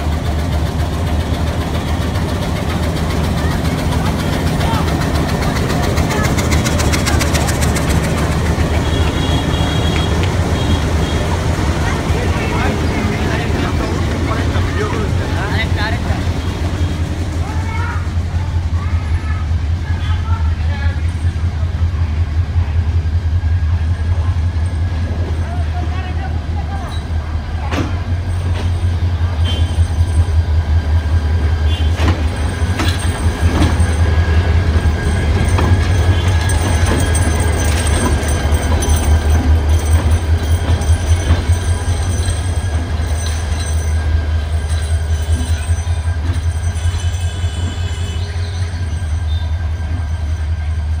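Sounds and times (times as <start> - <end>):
train wheels clicking over rails: 0.0 - 19.8, 26.4 - 51.0
locomotive engine rumbling: 0.0 - 51.0
wheels squealing: 1.6 - 20.2, 24.5 - 51.0.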